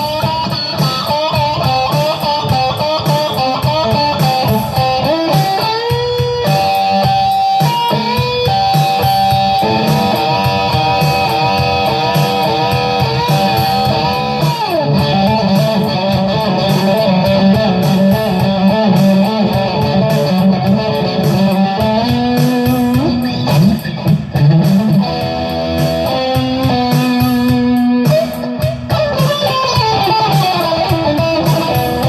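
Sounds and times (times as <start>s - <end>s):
electric guitar lead: 0.0s - 32.0s.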